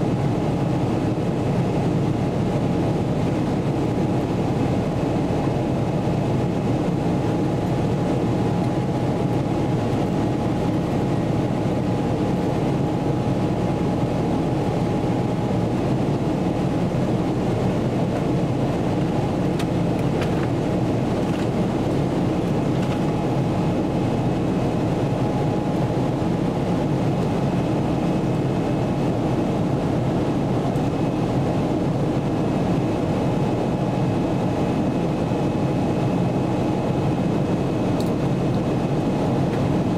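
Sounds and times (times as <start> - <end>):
airflow rush in aircraft cabin: 0.0 - 39.9
jet engine noise: 0.0 - 39.9.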